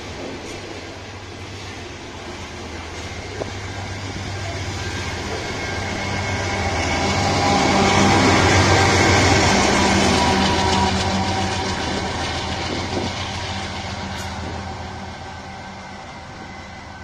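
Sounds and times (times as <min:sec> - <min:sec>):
freight cars rolling past: 0:00.0 - 0:17.0
locomotive engine passing: 0:00.0 - 0:17.0.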